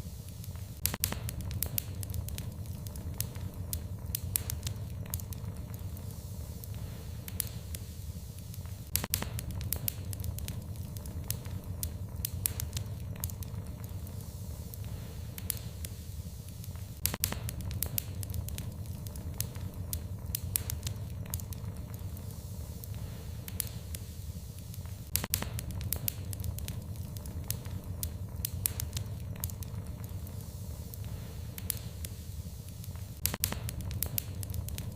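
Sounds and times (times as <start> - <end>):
steady low rumble: 0.0 - 34.9
wood fire crackling: 0.0 - 34.9.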